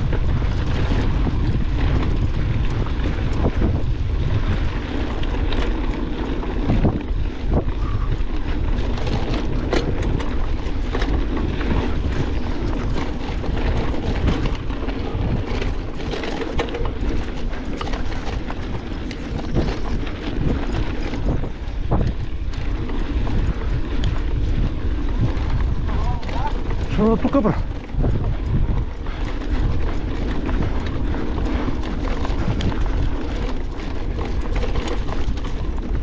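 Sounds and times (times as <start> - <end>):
bike rattling and knocking: 0.0 - 36.0
wind buffeting microphone: 0.0 - 36.0.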